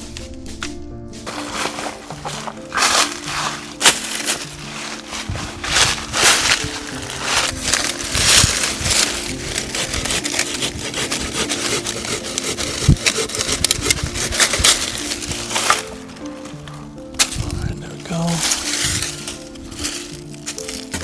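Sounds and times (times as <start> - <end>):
soft background music: 0.0 - 21.0
wood scraping and cracking: 1.3 - 21.0.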